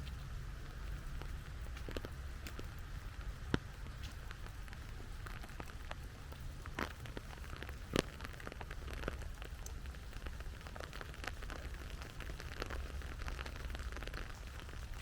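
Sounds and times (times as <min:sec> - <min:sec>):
low steady rumble: 0:00.0 - 0:15.0
rain falling: 0:00.0 - 0:15.0.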